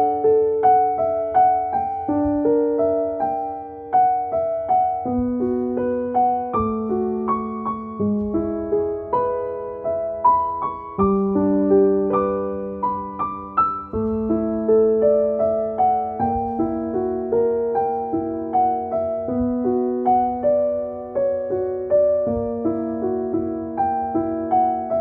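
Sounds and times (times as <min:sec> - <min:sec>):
gentle solo piano: 0:00.0 - 0:25.0.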